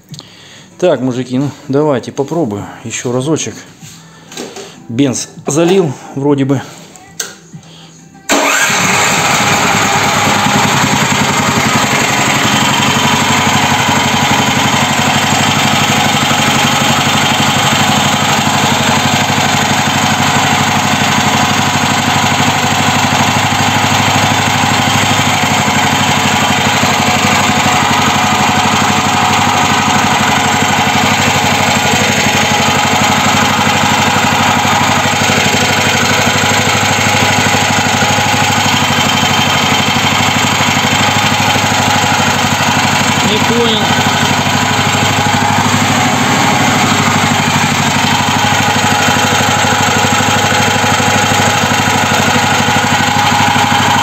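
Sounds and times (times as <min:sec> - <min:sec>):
petrol engine idling: 0:08.3 - 0:54.0.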